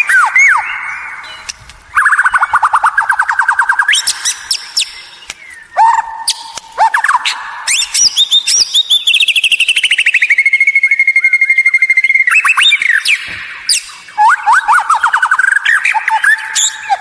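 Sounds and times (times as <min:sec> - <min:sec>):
bird singing whistled notes: 0:00.0 - 0:17.0.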